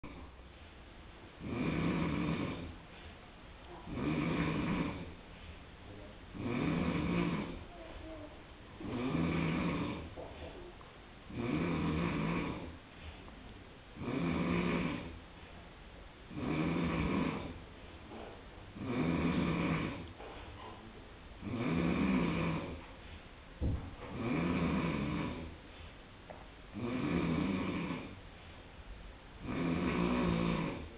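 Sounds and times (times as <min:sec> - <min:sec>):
appliance rhythmic snoring noise: 0:00.0 - 0:28.7, 0:29.3 - 0:30.9.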